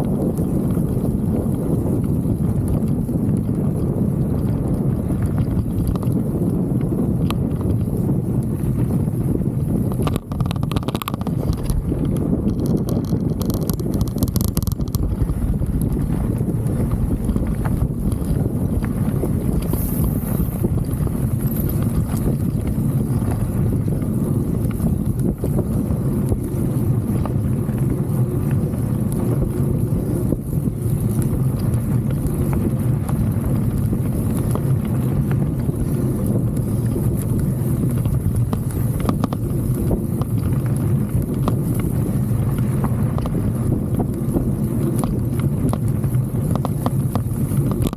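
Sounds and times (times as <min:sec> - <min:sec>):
bike rolling rumble: 0:00.0 - 0:47.9
wind on microphone: 0:00.0 - 0:47.9.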